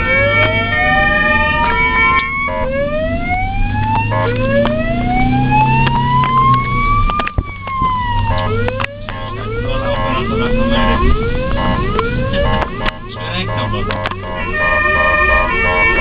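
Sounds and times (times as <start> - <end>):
ambulance siren wailing: 0.0 - 16.0
low vehicle hum: 0.0 - 16.0
stepped siren chirps: 0.0 - 16.0.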